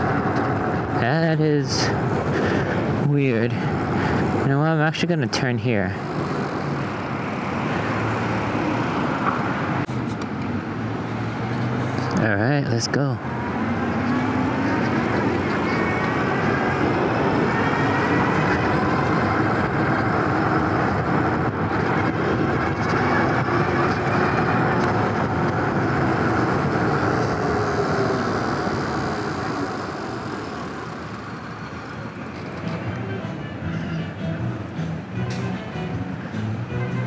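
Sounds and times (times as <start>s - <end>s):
road noise from electric bike: 0.0s - 37.0s.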